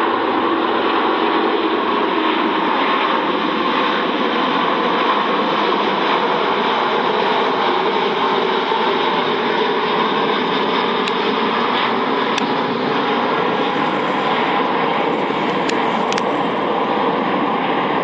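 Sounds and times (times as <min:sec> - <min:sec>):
jet engines at takeoff thrust: 0:00.0 - 0:18.0.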